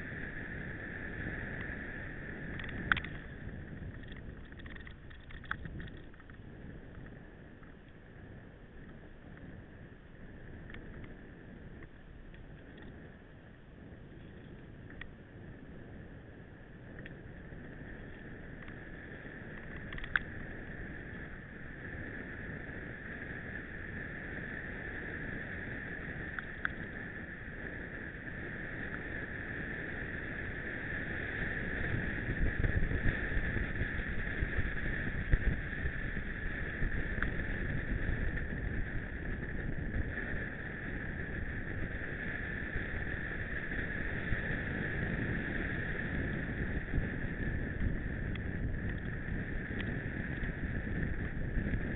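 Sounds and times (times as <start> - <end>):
mountain bike rumbling over rough ground: 0.0 - 51.9.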